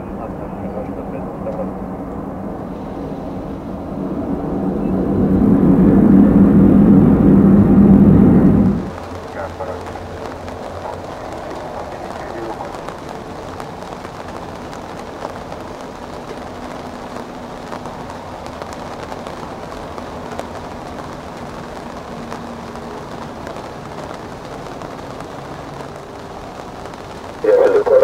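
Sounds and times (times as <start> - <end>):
distant jet engines idling: 0.0 - 28.0
rain: 0.0 - 28.0.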